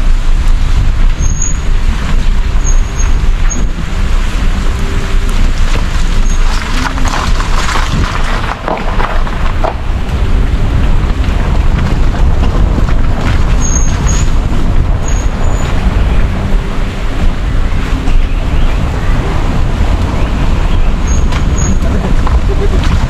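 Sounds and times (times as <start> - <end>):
car rumbling on a rough lane: 0.0 - 23.0
wind buffeting a microphone: 0.0 - 23.0.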